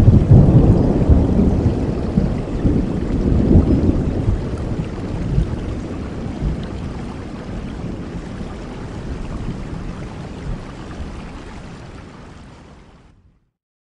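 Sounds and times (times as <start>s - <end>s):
thunder rumbling: 0.0s - 11.9s
rain hissing: 0.0s - 12.7s.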